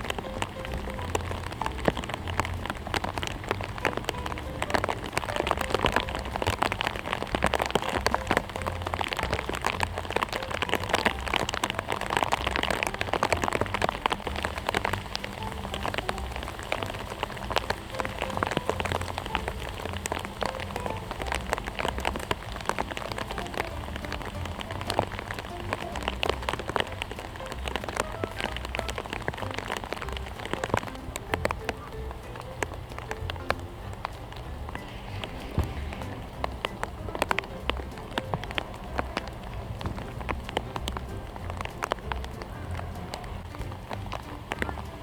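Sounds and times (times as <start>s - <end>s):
rain pattering: 0.0s - 45.0s.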